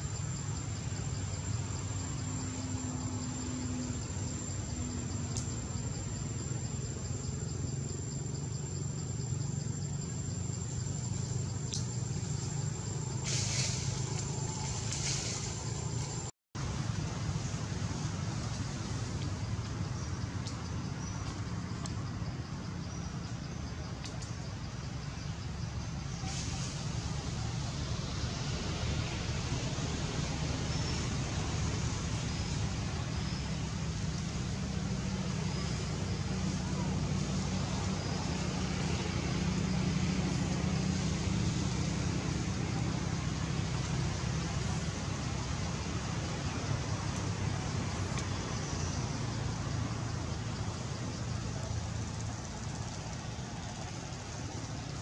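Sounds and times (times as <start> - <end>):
low rumble and hiss: 0.0 - 55.0.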